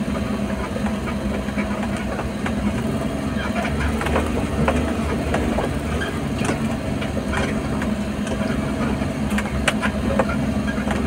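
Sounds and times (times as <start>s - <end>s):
vehicle engine running: 0.0s - 11.0s
sharp clicks and knocks: 0.6s - 11.0s.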